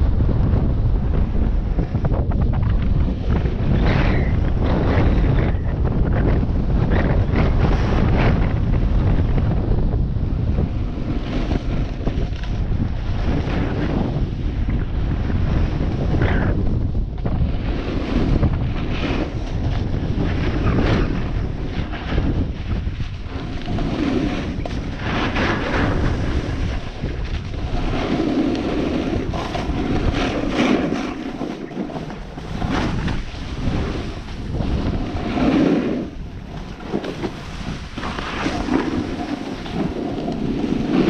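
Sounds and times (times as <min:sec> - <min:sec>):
wind buffeting microphone: 0:00.0 - 0:41.0
skis carving across snow: 0:00.2 - 0:41.0.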